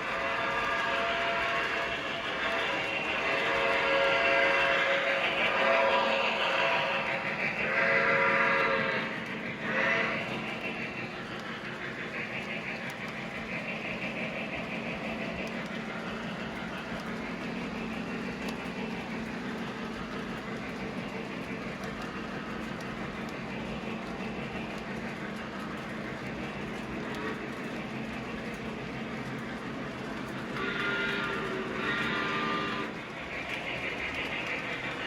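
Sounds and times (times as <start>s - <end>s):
model train rumbling on track: 0.0s - 35.0s.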